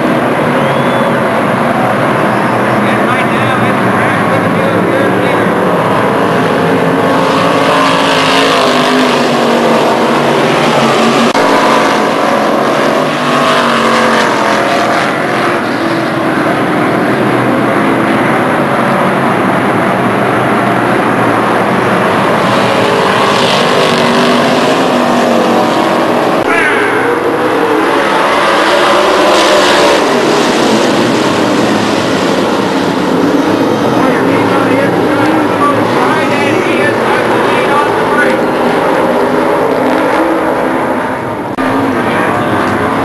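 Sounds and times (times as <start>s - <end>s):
race car engines running hard: 0.0s - 43.0s.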